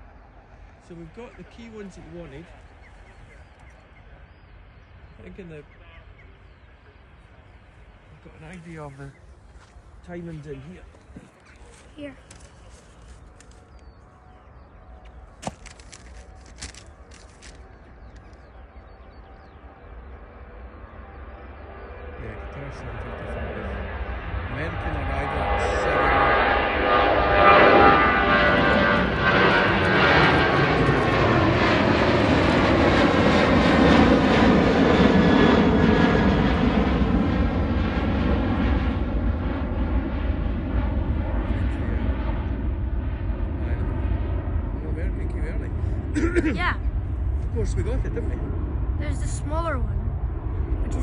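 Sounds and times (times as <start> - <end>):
low steady rumble: 0.0 - 51.0.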